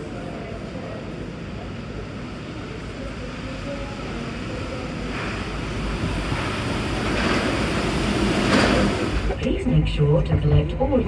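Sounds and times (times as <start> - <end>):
train rumbling from inside: 0.0 - 11.0.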